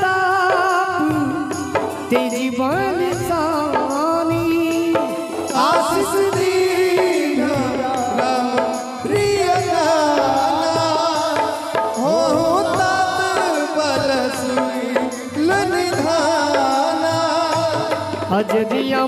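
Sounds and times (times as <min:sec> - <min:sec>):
person singing sliding vocal line: 0:00.0 - 0:19.0
tabla and dholak drumming: 0:00.0 - 0:19.0.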